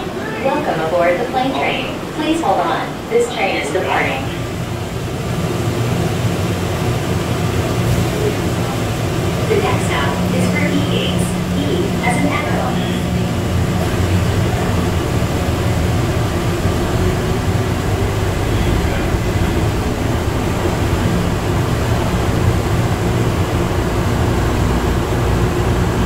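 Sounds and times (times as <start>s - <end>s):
low steady hum: 0.0s - 26.0s
train rumbling through tunnel: 0.0s - 26.0s.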